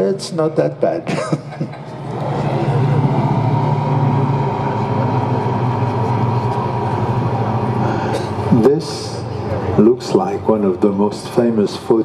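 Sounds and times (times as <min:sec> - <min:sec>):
propeller planes droning past: 0:00.0 - 0:12.0.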